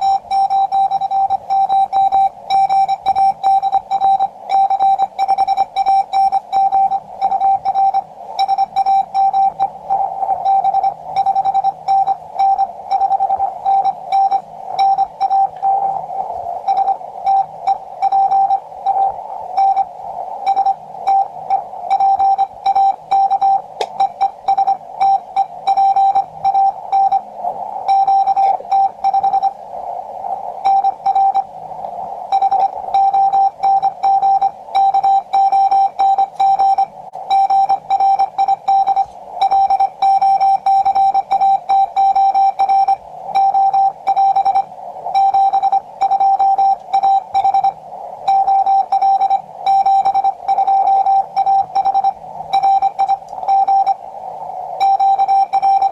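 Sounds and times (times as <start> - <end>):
morse code beeps: 0.0 - 29.6, 30.6 - 31.5, 32.3 - 54.0, 54.7 - 55.9
receiver hiss: 0.0 - 55.9.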